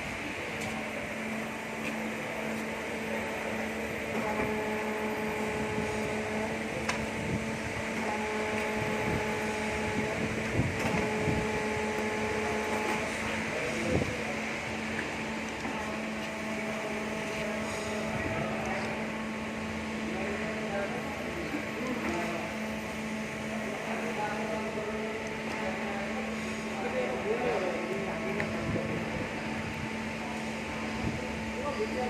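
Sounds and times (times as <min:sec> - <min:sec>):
high motor whine: 0:00.0 - 0:32.0.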